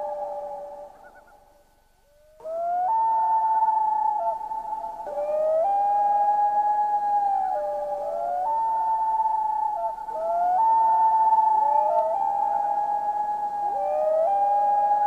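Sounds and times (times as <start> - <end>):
loons wailing: 0.0 - 15.0.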